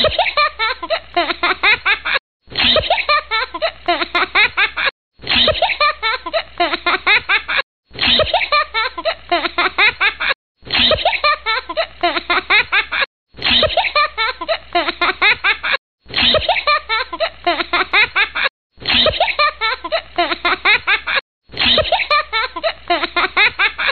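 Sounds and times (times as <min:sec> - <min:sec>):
giggling laughter: 0:00.0 - 0:23.9.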